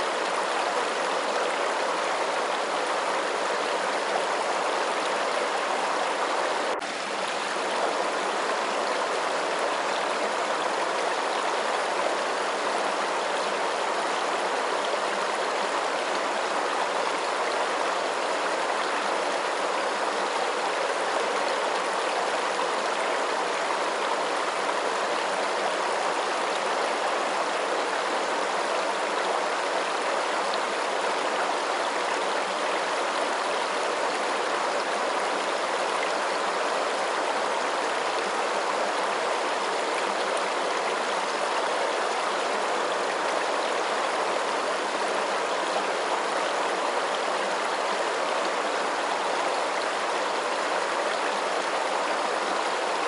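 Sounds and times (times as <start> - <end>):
running water rushing: 0.0 - 53.0.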